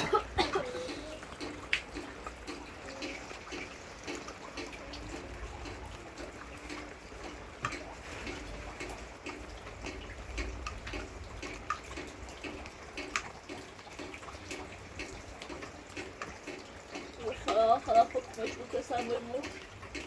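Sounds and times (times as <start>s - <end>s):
water running and splashing: 0.0s - 20.0s
small clicks and knocks: 1.2s - 17.6s.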